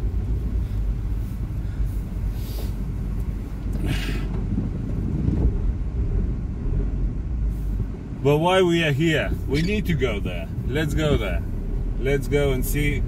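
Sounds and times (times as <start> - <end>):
car engine running low: 0.0 - 13.0.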